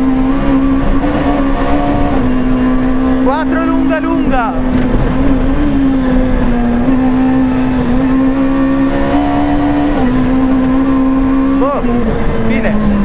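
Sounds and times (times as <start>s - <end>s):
rally car engine from cabin: 0.0s - 13.0s
tyre and road noise: 0.0s - 13.0s.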